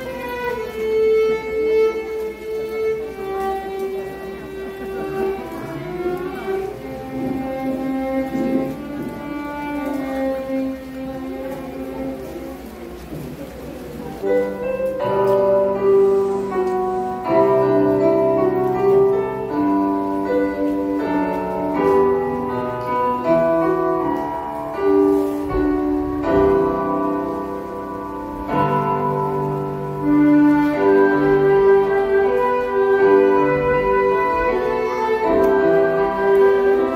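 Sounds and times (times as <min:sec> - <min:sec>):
violins playing melody: 0:00.0 - 0:13.2, 0:14.2 - 0:36.9
piano accompaniment: 0:00.0 - 0:36.9.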